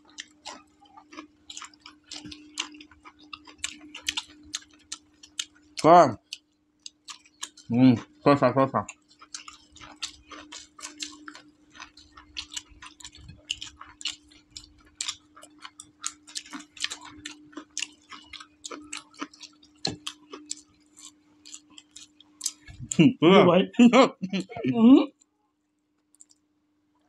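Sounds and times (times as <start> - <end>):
chewing clicks and smacks: 0.0 - 8.2, 8.8 - 23.0, 26.0 - 26.4
steady low hum: 0.0 - 25.6.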